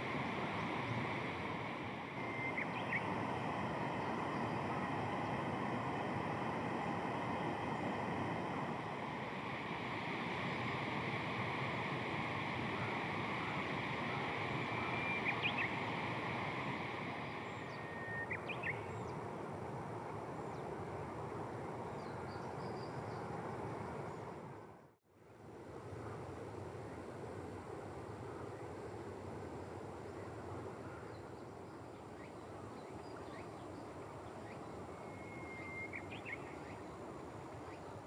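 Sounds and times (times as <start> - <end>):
outdoor background noise: 0.0 - 38.0.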